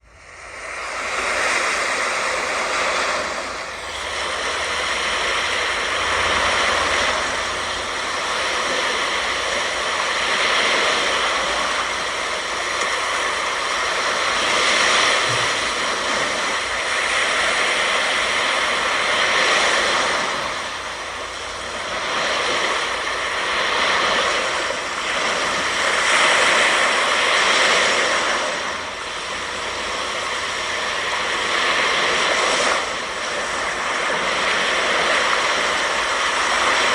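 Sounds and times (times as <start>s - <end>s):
faint tonal hum: 0.0s - 36.9s
ocean surf breaking: 0.0s - 36.9s.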